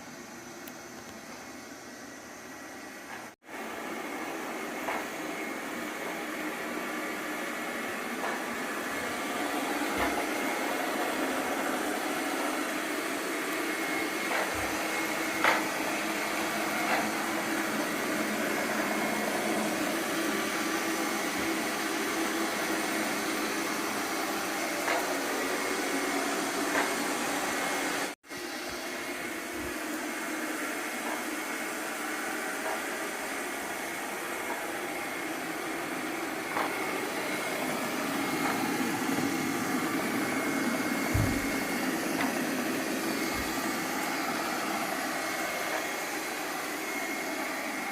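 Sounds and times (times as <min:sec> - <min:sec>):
robot vacuum cleaner running: 0:00.0 - 0:47.9.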